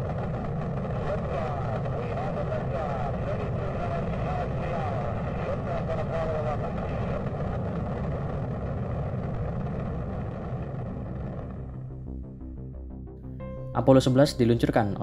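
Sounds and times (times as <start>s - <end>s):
rocket engines rumbling: 0.0s - 12.7s.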